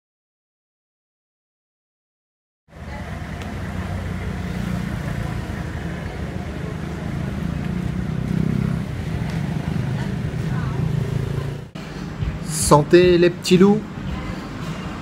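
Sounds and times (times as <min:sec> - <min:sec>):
low traffic rumble: 0:02.7 - 0:15.0.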